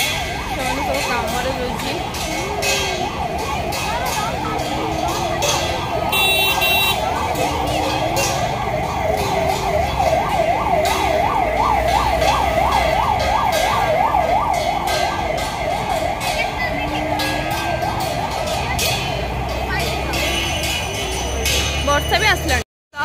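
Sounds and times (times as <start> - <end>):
ambulance siren yelping: 0.0 - 21.5.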